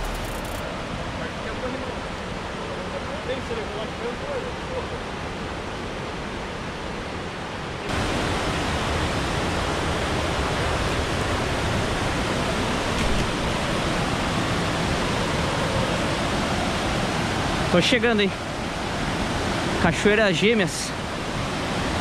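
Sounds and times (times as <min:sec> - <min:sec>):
river rushing over boulders: 0:00.0 - 0:22.0.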